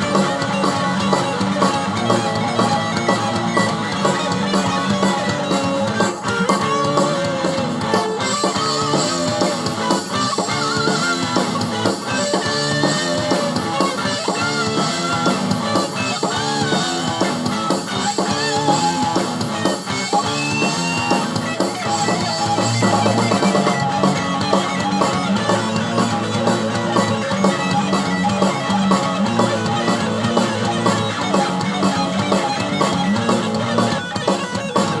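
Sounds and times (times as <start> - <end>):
rock music with guitar and drums: 0.0 - 35.0.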